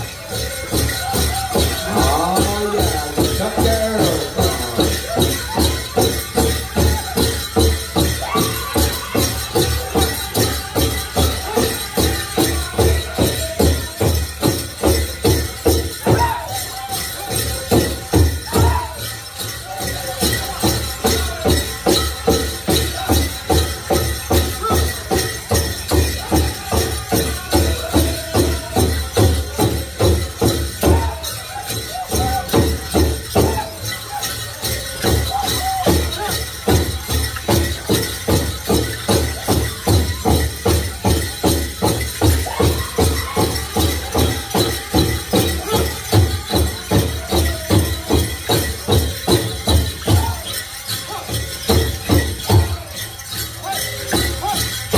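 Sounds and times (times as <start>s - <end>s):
ankle bells jingling: 0.0s - 54.9s
high-pitched group singing: 0.0s - 54.9s.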